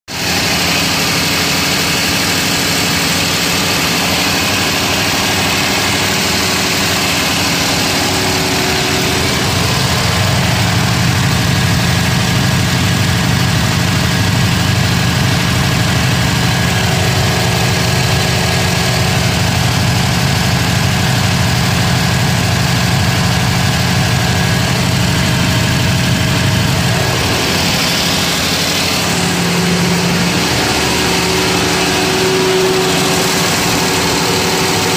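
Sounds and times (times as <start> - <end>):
diesel generator droning: 0.1 - 34.9.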